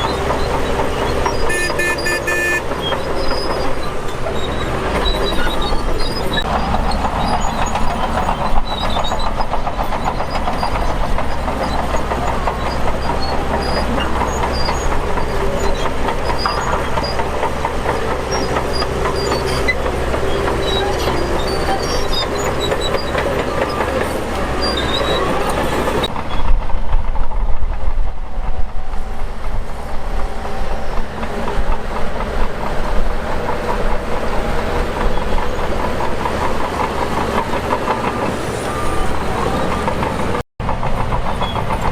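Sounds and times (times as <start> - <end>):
bulldozer engine drone: 0.0 - 41.9
steel tracks clanking: 0.0 - 41.9.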